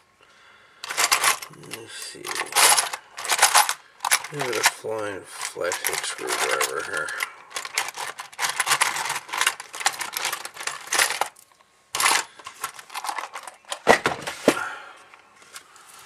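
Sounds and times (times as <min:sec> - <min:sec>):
small tools clicking and scraping: 0:00.8 - 0:13.8.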